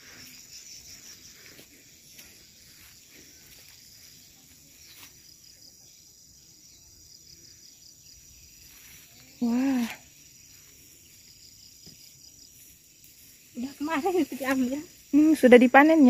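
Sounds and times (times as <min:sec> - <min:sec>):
faint insects chirping: 0:00.0 - 0:16.0
quiet outdoor ambience: 0:00.0 - 0:16.0.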